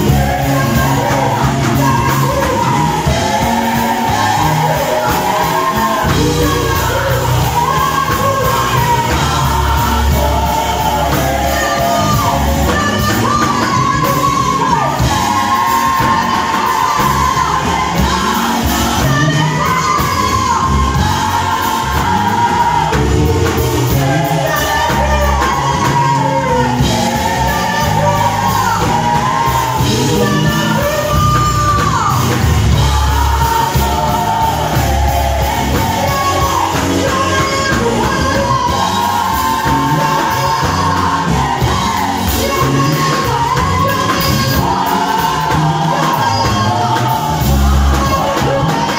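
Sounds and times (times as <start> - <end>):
vocal group singing: 0.0 - 48.9.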